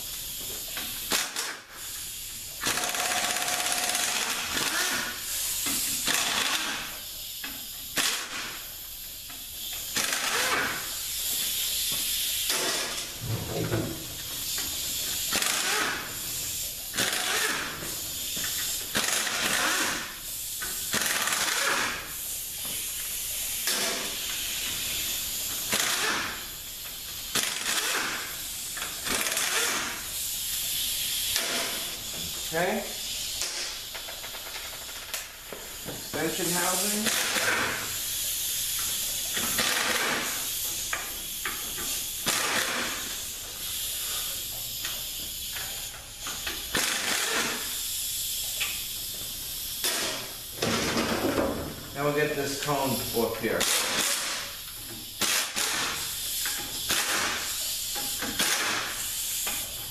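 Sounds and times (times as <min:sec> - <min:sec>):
hissing air exhaust: 0:00.0 - 0:59.9
pneumatic air tool bursts: 0:00.0 - 0:59.9.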